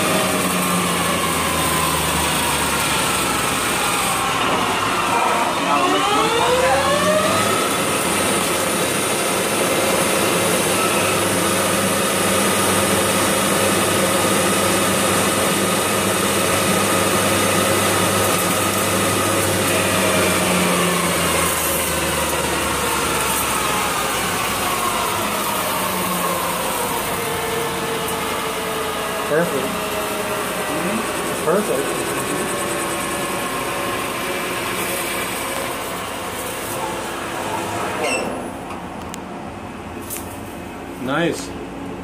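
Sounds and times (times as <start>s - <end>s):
lathe spindle whine: 0.0s - 38.4s.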